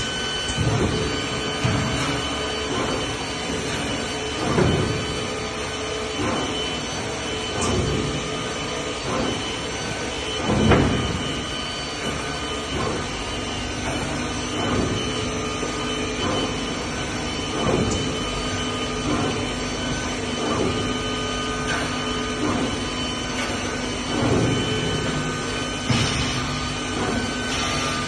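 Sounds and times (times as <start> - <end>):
drilling machine whining: 0.0 - 28.0.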